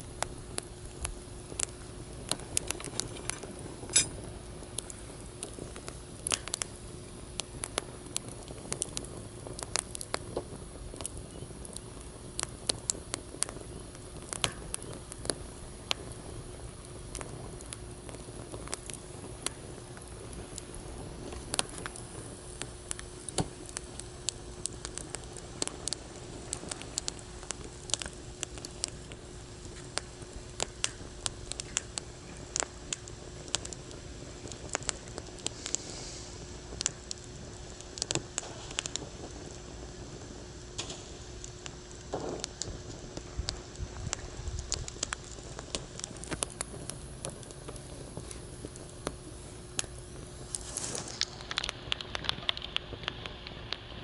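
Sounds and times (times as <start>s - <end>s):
campfire crackling and popping: 0.0s - 54.0s
faint steady hum: 0.0s - 54.0s.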